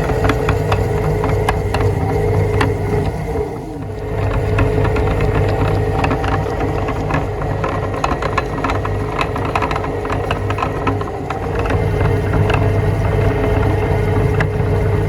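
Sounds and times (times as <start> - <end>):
clicks and crackles of mincing: 0.0 - 15.0
meat grinder motor running: 0.0 - 15.0.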